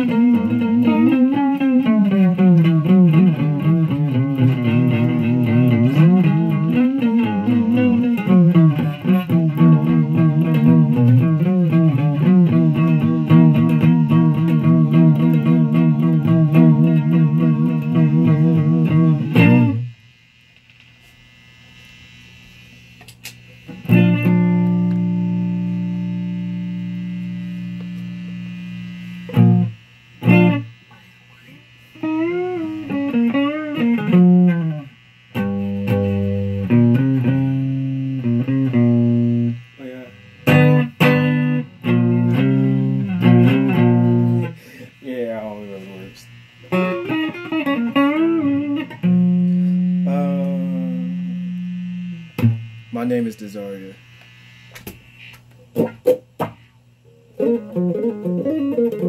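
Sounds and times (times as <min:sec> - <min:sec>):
guitar chord ringing: 0:00.0 - 0:20.0, 0:23.5 - 0:54.0, 0:57.0 - 0:59.0
distorted fuzz electric guitar: 0:00.0 - 0:59.0.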